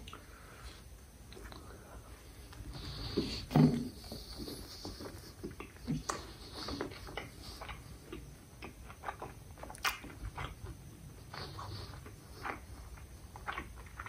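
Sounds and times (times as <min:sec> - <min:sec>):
mouth chewing food: 0:00.0 - 0:14.0.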